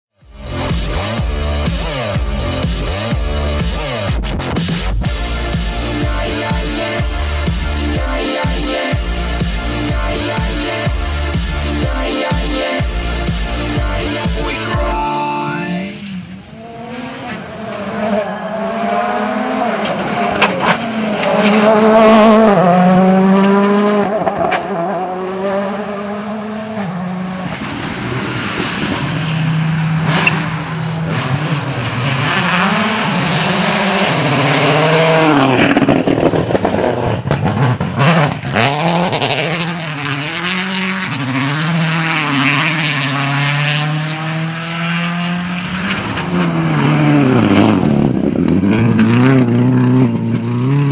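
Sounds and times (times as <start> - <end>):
rally car engines revving: 0.2 - 14.7, 16.0 - 50.9.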